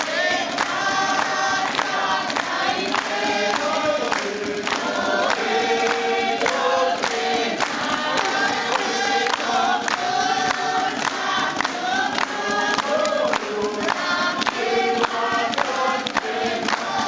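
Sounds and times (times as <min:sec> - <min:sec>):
group singing: 0:00.0 - 0:17.0
hand-clapping on the beat: 0:00.0 - 0:17.0.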